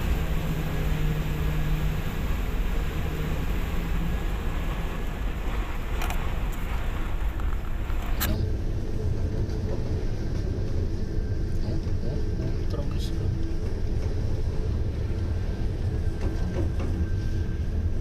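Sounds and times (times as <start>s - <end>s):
ship rumbling in rough sea: 0.0s - 18.0s.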